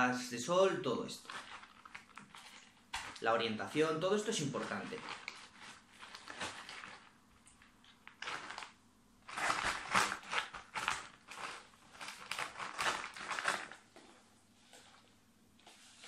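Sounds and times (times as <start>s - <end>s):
plastic plant pot crackling: 1.2s - 16.0s.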